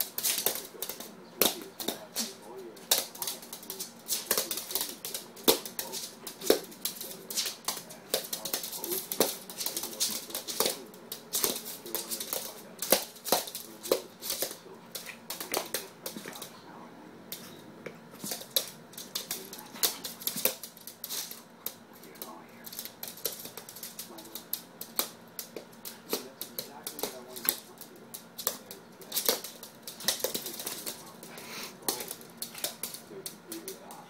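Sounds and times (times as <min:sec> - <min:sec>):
dog claws clicking on hard floor: 0:00.0 - 0:16.5, 0:18.2 - 0:34.0.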